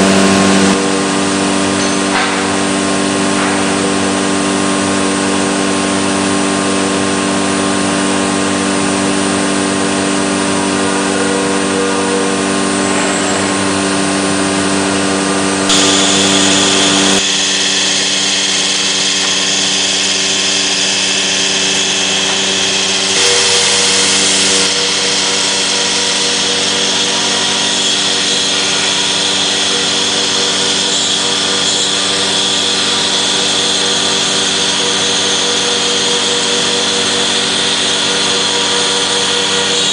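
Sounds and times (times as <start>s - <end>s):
router whining while cutting: 0.0s - 39.9s.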